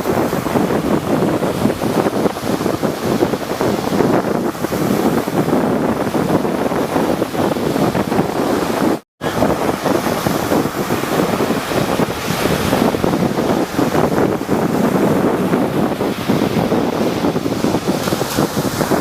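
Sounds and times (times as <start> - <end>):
sea waves breaking: 0.0 - 19.0
wind buffeting microphone: 0.0 - 19.0.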